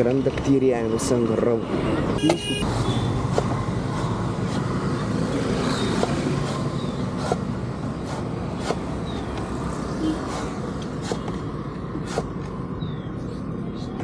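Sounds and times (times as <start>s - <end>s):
hum of passing vehicles: 0.0s - 14.0s.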